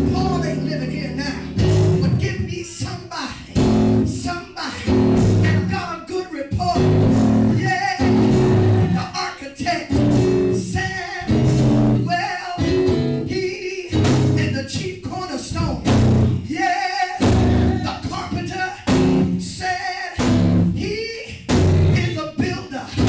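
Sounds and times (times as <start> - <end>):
bass guitar: 0.0 - 2.6, 3.4 - 5.9, 6.5 - 9.2, 9.8 - 16.5, 17.2 - 22.2
guitar playing phrases: 0.0 - 2.6, 3.5 - 16.6, 17.2 - 19.6, 20.2 - 22.2
person singing: 0.0 - 15.8, 16.4 - 23.0.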